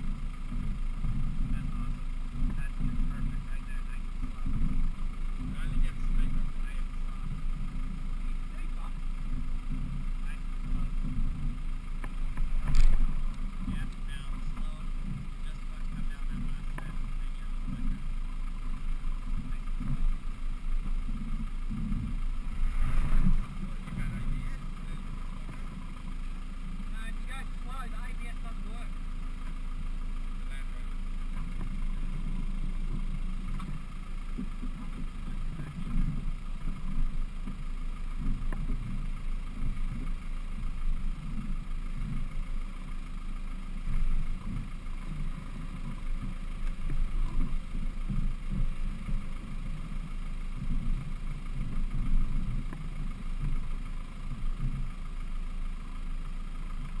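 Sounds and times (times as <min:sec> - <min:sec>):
truck engine running at low revs: 0:00.0 - 0:57.0
wheels thumping over bumps: 0:00.0 - 0:57.0.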